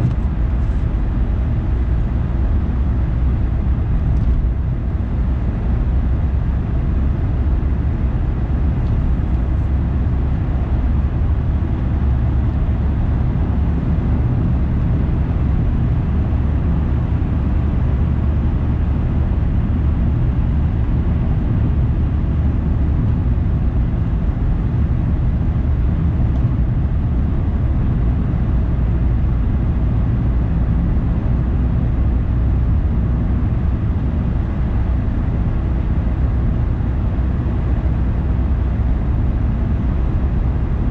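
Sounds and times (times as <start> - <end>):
car driving: 0.0 - 40.8.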